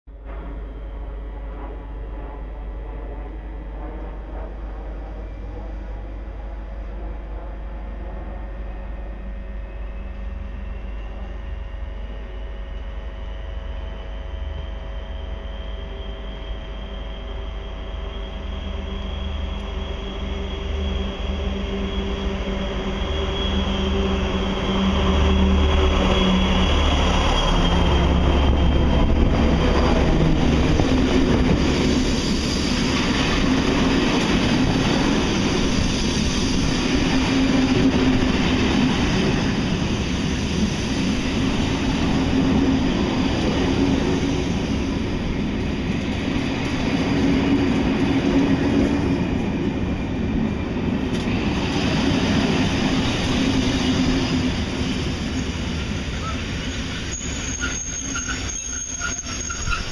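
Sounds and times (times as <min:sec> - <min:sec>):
diesel locomotive engines droning: 0:00.1 - 0:59.9.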